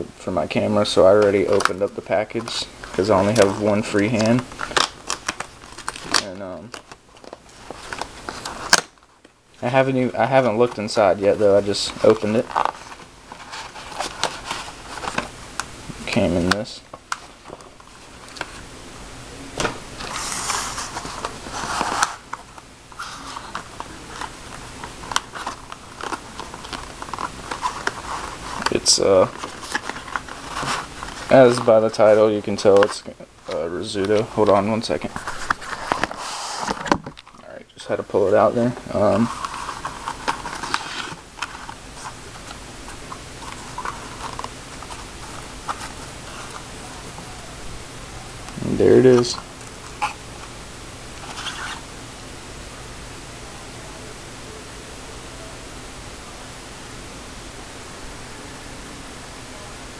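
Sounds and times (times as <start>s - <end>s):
packaging rustling and crinkling: 0.8s - 18.7s, 19.5s - 47.5s, 48.3s - 51.9s.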